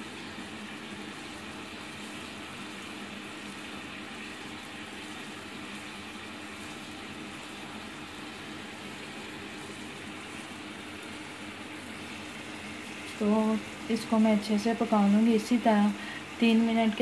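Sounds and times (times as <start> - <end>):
syrup bubbling in a pan: 0.0 - 16.4.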